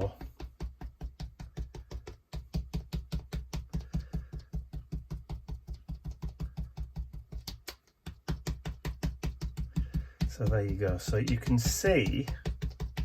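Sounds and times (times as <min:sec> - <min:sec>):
sponge tapping on card: 0:00.0 - 0:13.0.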